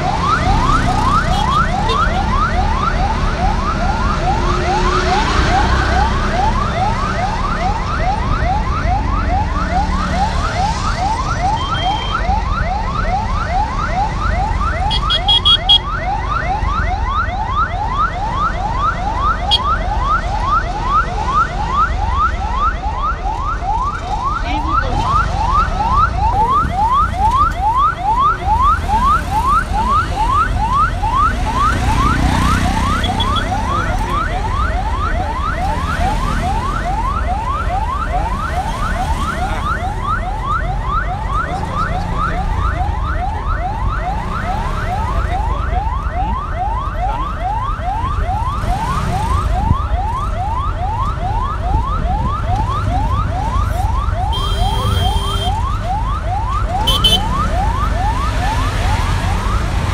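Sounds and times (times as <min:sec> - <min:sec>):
electronic siren sweeps: 0:00.0 - 0:23.1, 0:24.2 - 0:59.9
auto-rickshaw engine rumble: 0:00.0 - 0:59.9.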